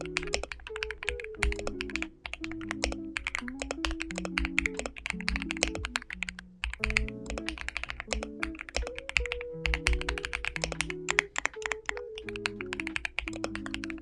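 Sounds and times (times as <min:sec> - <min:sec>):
typing on mechanical keyboard: 0:00.0 - 0:14.0.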